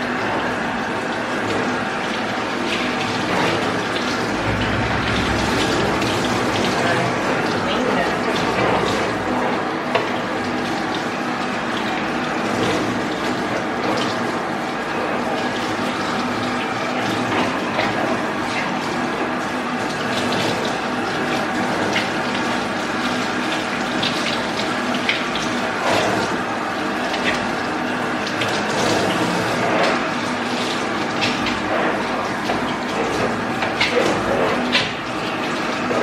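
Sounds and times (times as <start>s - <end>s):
mechanical hum: 0.0s - 36.0s
water running from a hose: 0.0s - 36.0s.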